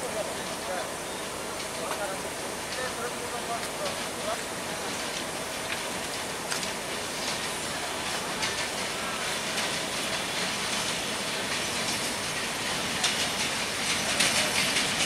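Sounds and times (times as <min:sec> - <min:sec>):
train rushing rumble: 0:00.0 - 0:15.0
train wheels clicking over rail joints: 0:00.0 - 0:15.0.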